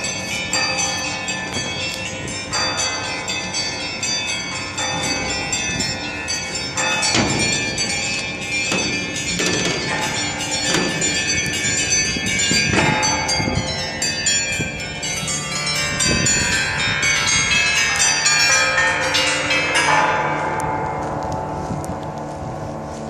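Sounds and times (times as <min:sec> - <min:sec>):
many bells ringing: 0:00.0 - 0:23.0.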